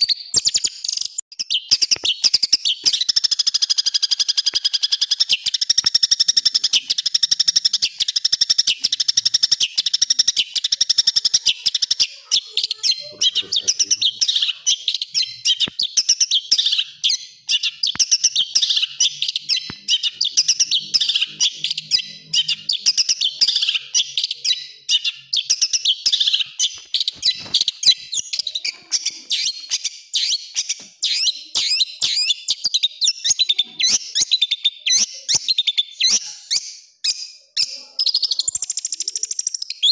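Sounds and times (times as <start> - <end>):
bird chattering phrases: 0.0 - 36.6
bird singing harsh rattle: 0.0 - 39.9.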